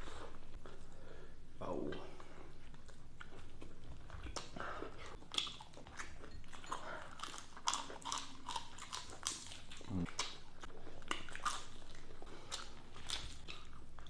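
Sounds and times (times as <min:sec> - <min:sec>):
person chewing crunchy food: 0:02.5 - 0:14.0.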